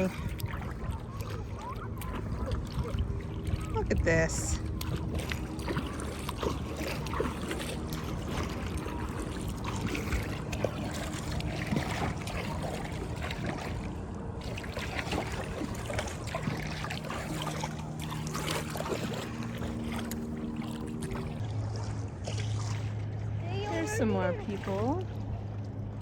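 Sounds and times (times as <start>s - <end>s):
paddle splashing through water: 0.0s - 26.0s.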